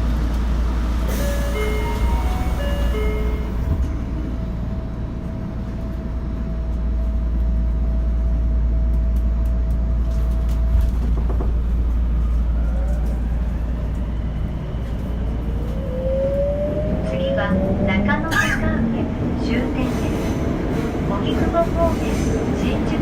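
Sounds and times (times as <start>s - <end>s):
subway car low rumble: 0.0s - 23.0s.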